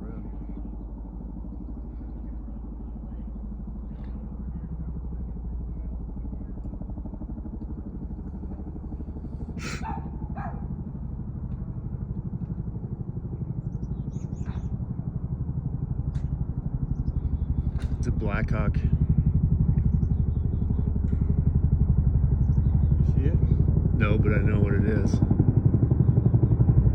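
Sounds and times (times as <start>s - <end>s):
helicopter rotor chop: 0.0s - 26.9s.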